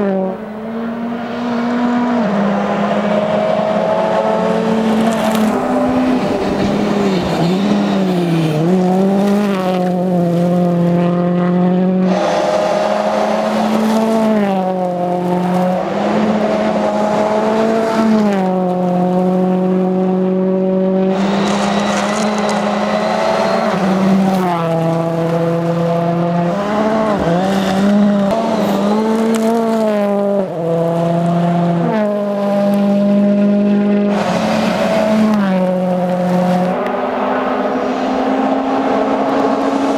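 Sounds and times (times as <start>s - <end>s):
rally car engine revving hard: 0.0s - 39.9s.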